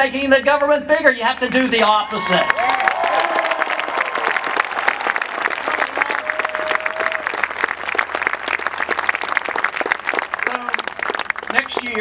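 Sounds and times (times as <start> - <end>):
crowd applauding: 1.5 - 12.0.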